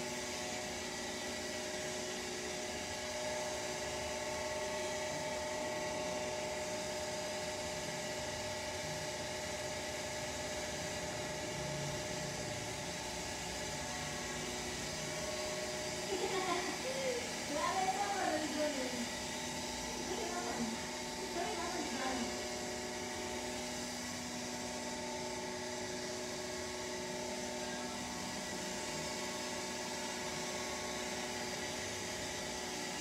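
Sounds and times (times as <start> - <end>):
mechanical hum with held tones: 0.0 - 33.0.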